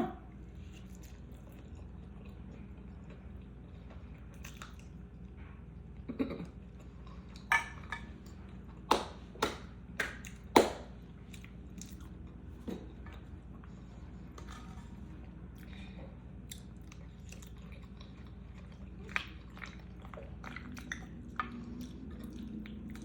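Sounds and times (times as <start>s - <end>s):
chewing crunchy chicken wings: 0.4s - 7.5s, 10.2s - 23.0s.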